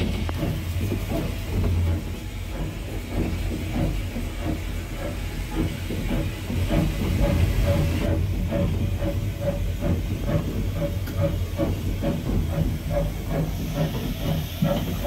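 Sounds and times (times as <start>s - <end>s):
hissing steam: 0.0s - 15.0s
rhythmic locomotive beat: 0.0s - 15.0s
steam locomotive rumble: 0.0s - 15.0s.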